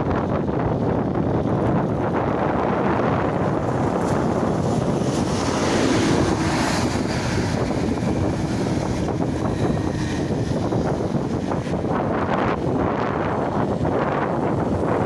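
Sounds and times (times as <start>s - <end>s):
rushing noise of moving ride: 0.0s - 15.0s
wind buffeting microphone: 0.0s - 15.0s.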